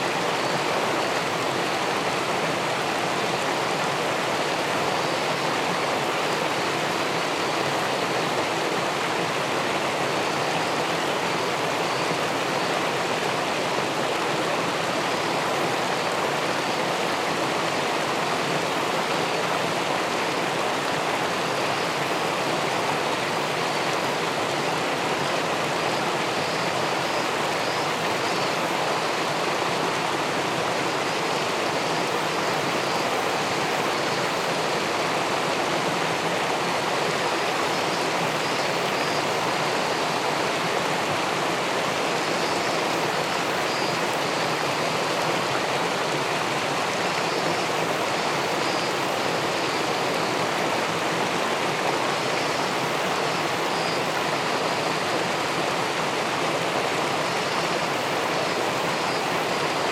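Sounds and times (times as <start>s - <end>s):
river water rushing over weir: 0.0s - 59.9s.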